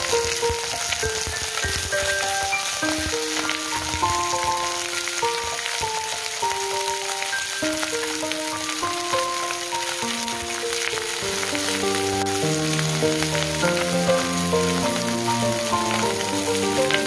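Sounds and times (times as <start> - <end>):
background music melody: 0.0 - 17.0
fish sizzling in frying pan: 0.0 - 17.0.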